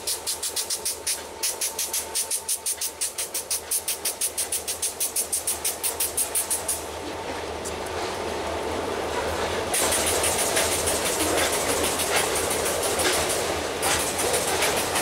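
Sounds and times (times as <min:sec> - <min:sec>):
freight train rumble: 0:00.0 - 0:15.0
train wheels clicking: 0:00.0 - 0:15.0.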